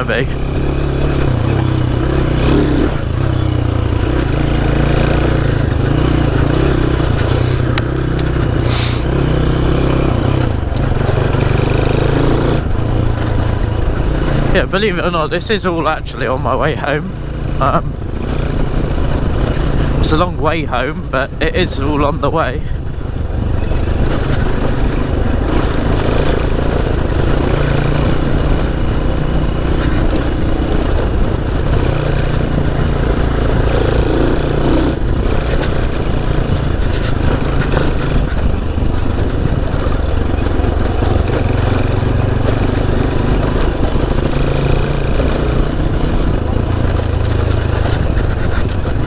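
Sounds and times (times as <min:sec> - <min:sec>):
motorcycle engine running: 0:00.0 - 0:49.0
wind and road noise: 0:00.0 - 0:49.0.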